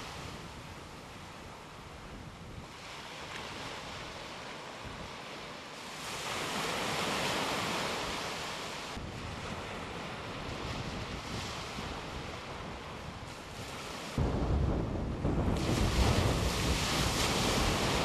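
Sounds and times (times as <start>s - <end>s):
surf washing onto beach: 0.0s - 18.0s
wind rumbling on microphone: 0.0s - 18.0s.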